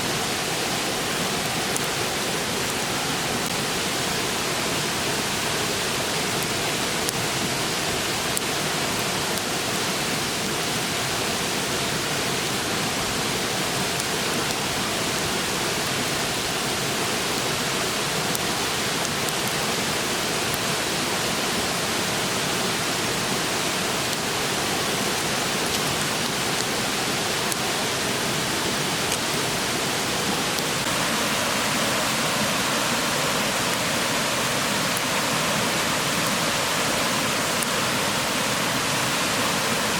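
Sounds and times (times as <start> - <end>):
river rushing: 0.0 - 39.9
wood fire crackling: 0.1 - 39.9.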